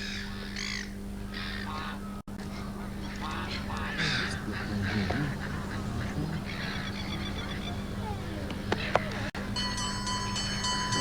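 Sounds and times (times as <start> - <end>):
birds calling: 0.0 - 11.0
steady low hum: 0.0 - 11.0.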